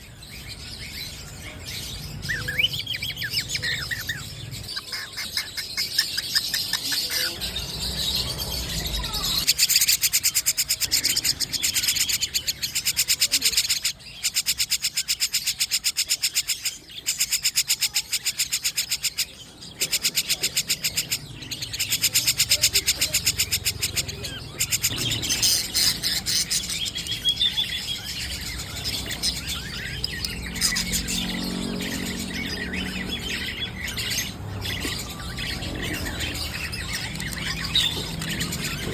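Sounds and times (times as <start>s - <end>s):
high-pitched bird trill: 0.0s - 38.9s
songbirds chirping: 0.0s - 38.9s.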